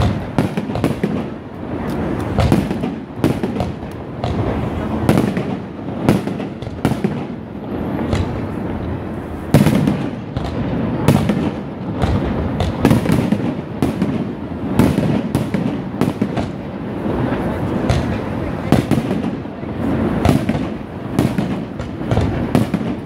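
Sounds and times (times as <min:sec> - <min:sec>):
fireworks bursting with loud bangs: 0:00.0 - 0:23.0.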